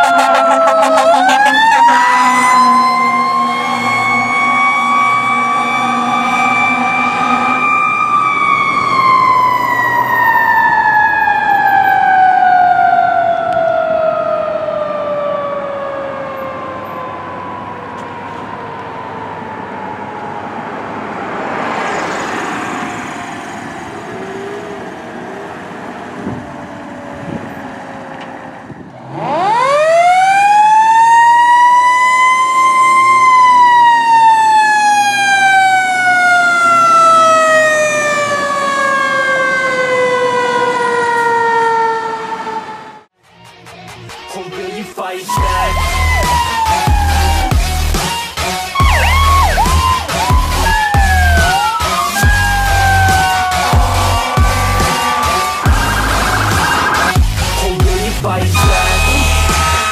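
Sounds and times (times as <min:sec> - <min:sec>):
fire engine siren wailing: 0:00.0 - 0:43.2, 0:45.3 - 0:59.9.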